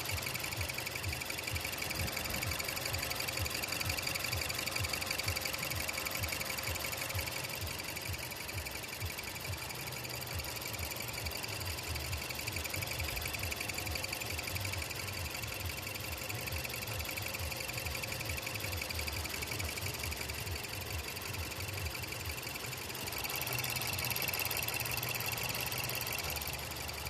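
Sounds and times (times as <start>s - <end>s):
car engine idling: 0.0s - 27.0s
rapid high-pitched chirping: 0.0s - 27.0s.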